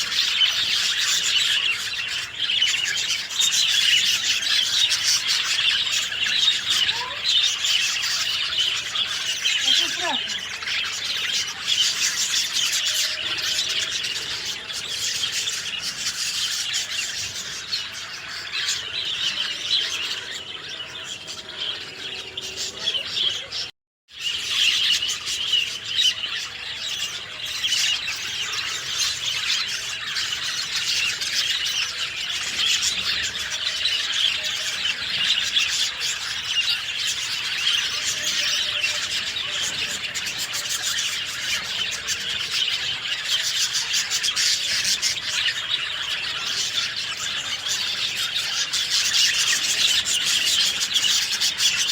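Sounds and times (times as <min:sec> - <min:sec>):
chorus of birds chirping: 0:00.0 - 0:51.9.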